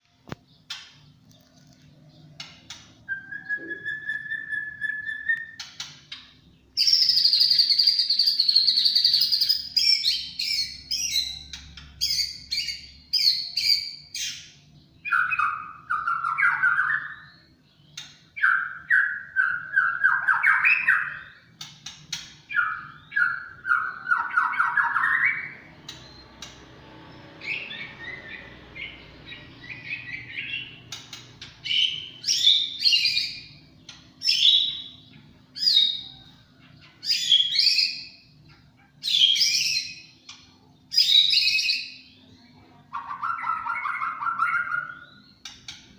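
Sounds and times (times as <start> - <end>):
bird singing varied song: 0.0 - 45.9.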